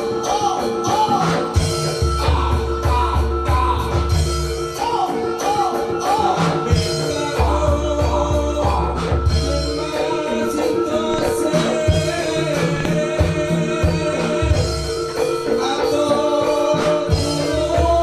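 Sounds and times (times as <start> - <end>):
gamelan melody: 0.0 - 18.0
person singing: 0.0 - 18.0.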